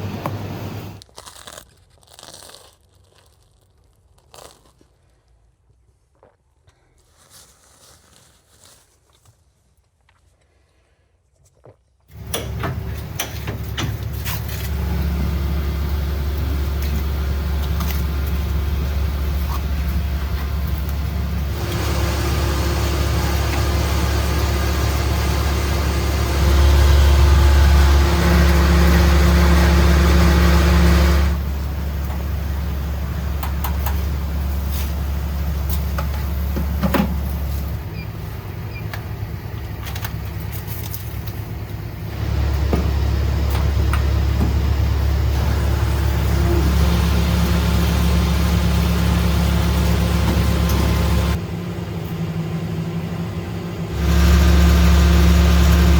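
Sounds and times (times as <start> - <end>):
truck engine drone: 0.0 - 1.0, 12.1 - 55.9.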